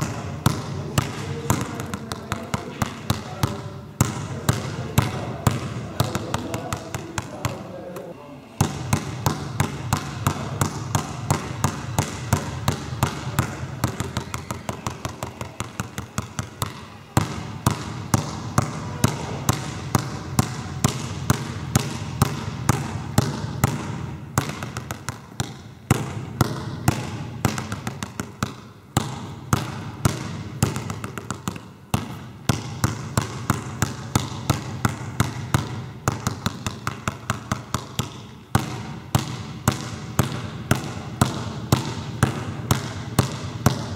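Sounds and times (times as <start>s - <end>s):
basketball bouncing on wooden floor: 0.0s - 7.7s, 8.6s - 43.9s.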